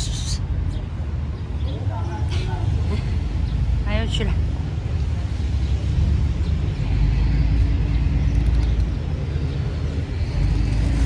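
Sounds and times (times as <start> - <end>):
faint engine hum: 0.0 - 11.0
low rumble of street traffic: 0.0 - 11.0.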